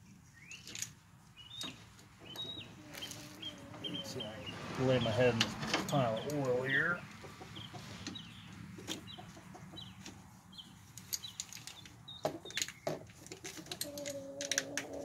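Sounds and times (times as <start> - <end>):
chickens clucking: 0.5 - 15.0.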